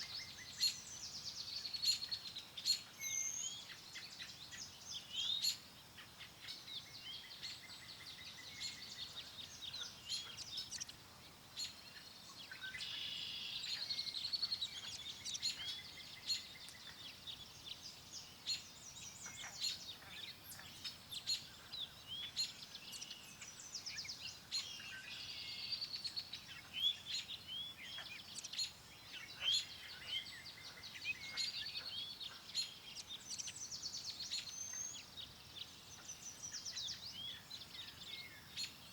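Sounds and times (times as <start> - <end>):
faint background hiss: 0.0 - 38.9
songbirds chirping and singing: 0.0 - 38.9.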